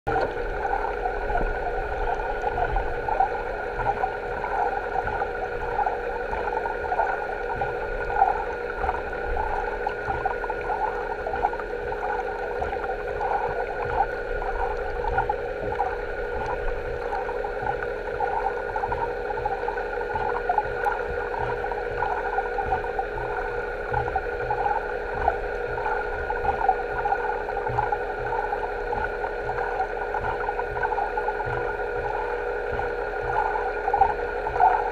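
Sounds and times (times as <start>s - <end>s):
fluttering gurgling water: 0.1s - 34.9s
underwater hum of held tones: 0.1s - 34.9s.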